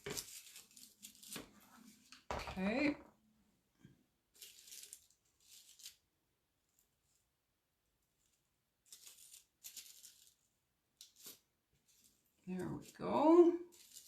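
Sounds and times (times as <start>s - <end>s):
faint rustling of craft pieces: 0.0s - 14.0s.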